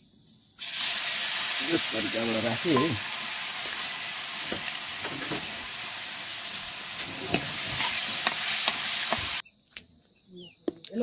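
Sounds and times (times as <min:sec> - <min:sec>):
oil sizzling in a wok: 0:00.6 - 0:09.4.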